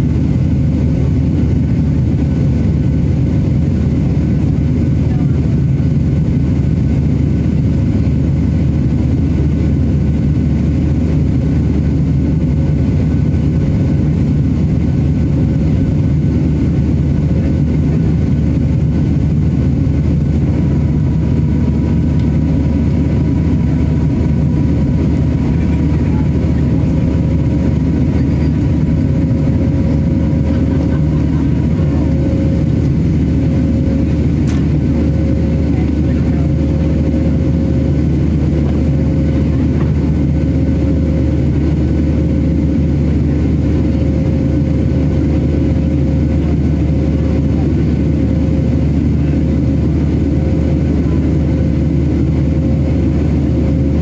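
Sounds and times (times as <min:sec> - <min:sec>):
airplane cabin engine roar: 0:00.0 - 0:54.0.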